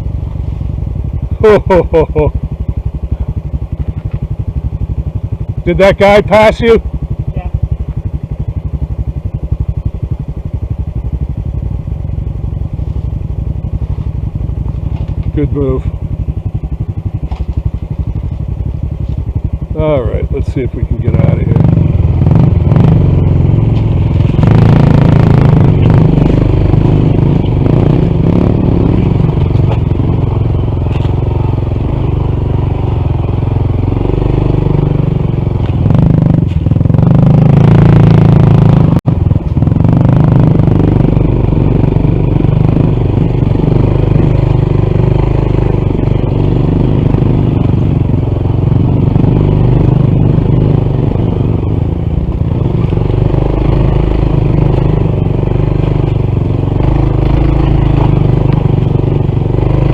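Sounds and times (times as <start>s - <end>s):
motorcycle engine under load: 0.0s - 59.9s.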